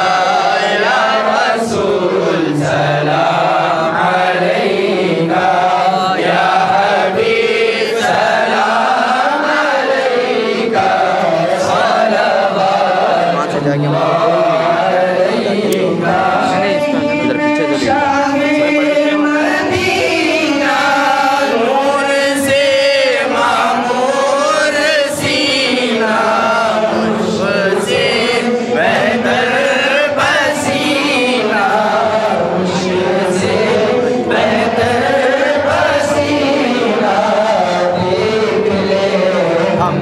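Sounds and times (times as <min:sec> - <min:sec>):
group of voices chanting: 0:00.0 - 0:38.7.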